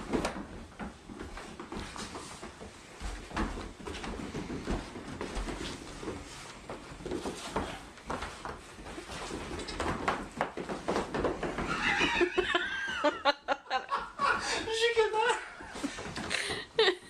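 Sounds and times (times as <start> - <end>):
hooves clattering: 0.0 - 16.6.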